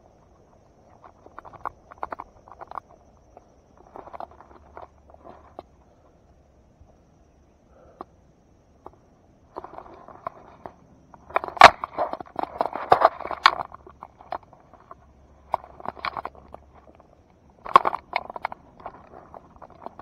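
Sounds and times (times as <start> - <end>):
rustling and scraping at microphone: 0.0 - 7.0, 8.7 - 20.0
sharp crackles and rustles: 0.0 - 7.1, 8.7 - 20.0.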